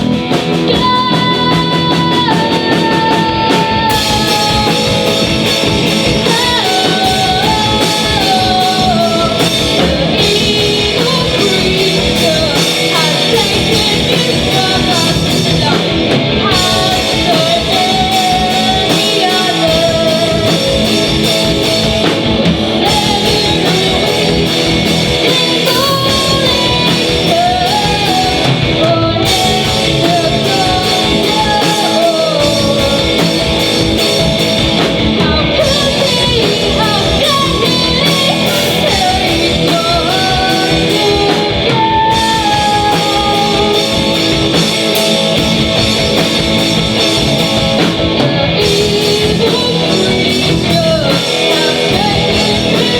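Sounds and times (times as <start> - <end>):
drums: 0.0 - 52.9
electric guitar: 0.0 - 52.9
person singing: 0.0 - 52.9.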